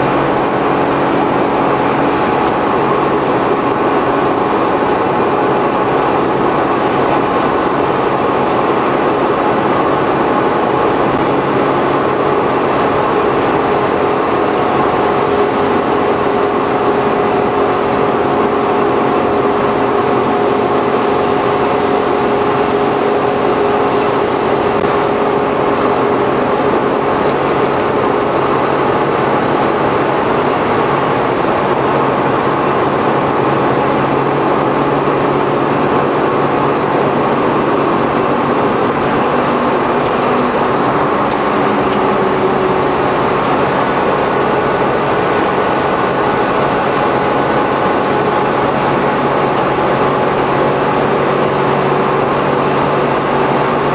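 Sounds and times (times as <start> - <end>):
road and wind noise: 0.0 - 53.9
steady humming tone: 0.0 - 53.9
van engine drone: 0.0 - 53.9.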